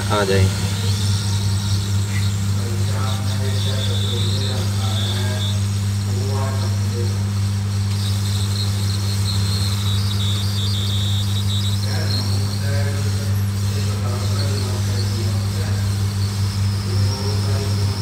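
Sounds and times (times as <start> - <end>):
electric hum: 0.0 - 18.0
hot air blowing hiss: 0.0 - 18.0.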